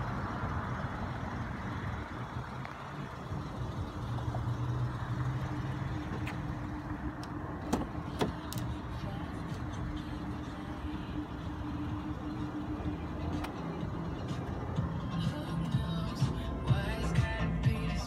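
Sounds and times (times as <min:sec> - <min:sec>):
vehicle idling: 0:00.0 - 0:18.0.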